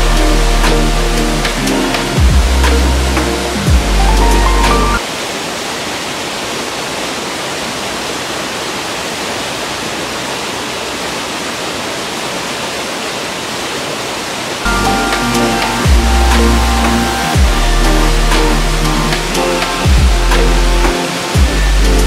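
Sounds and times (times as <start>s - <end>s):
water flowing over rocks: 0.0s - 22.0s.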